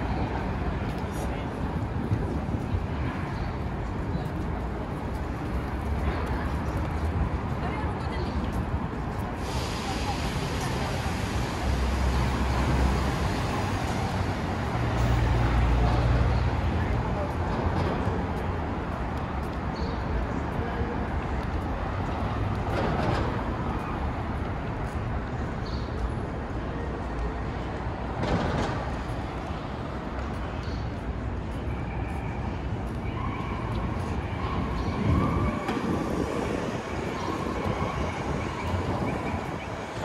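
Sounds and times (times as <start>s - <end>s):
passing vehicles rumble: 0.0s - 40.0s.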